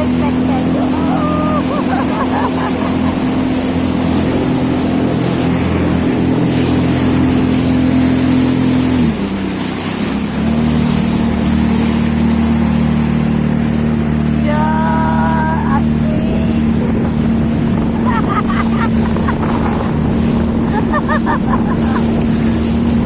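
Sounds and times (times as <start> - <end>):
jet ski engine running: 0.0 - 23.0.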